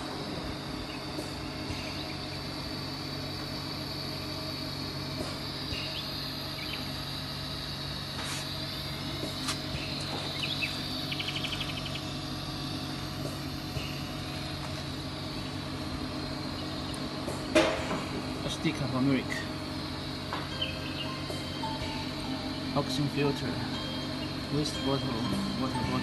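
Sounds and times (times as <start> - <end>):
pump humming with high whine: 0.0 - 26.0.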